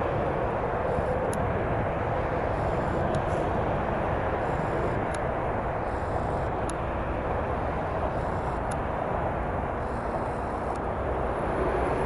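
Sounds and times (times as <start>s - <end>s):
distant freight train rumble: 0.0s - 12.0s.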